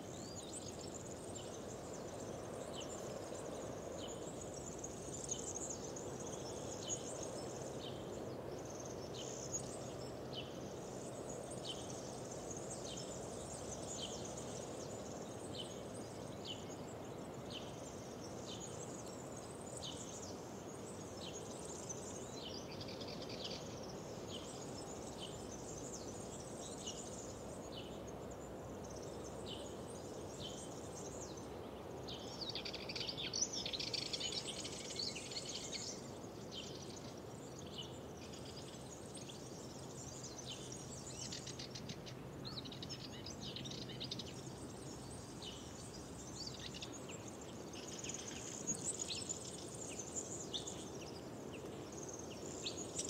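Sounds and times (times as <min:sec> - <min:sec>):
low background hiss: 0:00.0 - 0:53.0
songbirds chirping and trilling: 0:00.0 - 0:53.0.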